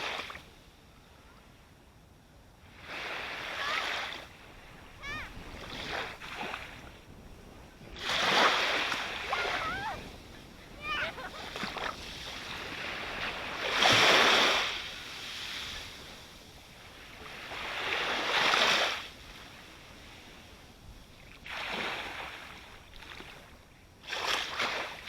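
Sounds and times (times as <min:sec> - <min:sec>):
ocean waves breaking: 0:02.6 - 0:20.6, 0:21.2 - 0:25.0.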